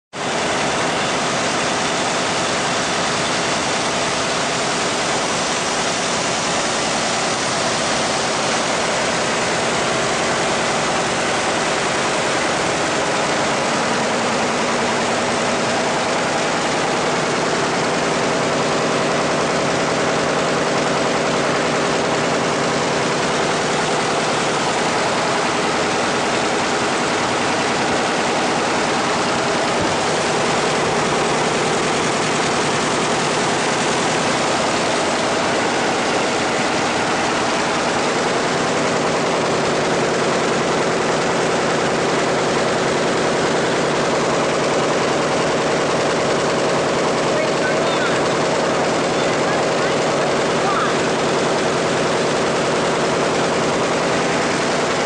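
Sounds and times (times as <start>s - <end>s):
envelope machine running: 0.1s - 55.0s.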